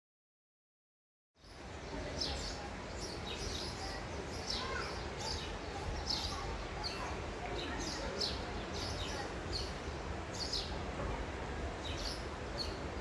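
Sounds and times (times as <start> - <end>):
small birds chirping: 1.4 - 10.8, 11.7 - 13.0.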